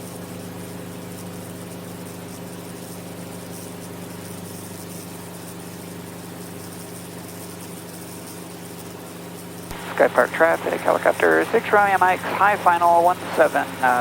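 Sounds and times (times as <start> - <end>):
helicopter engine and rotor droning: 0.0 - 14.0.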